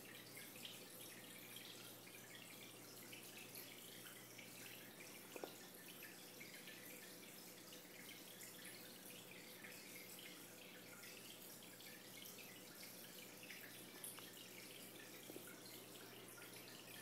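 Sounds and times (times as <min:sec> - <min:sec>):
aquarium water trickling and dripping: 0:00.0 - 0:17.0
low steady hum: 0:00.0 - 0:17.0.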